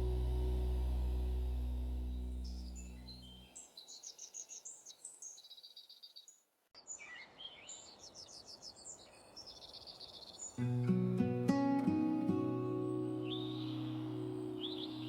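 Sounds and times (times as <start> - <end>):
small birds chirping: 0.0 - 10.9, 11.8 - 15.0.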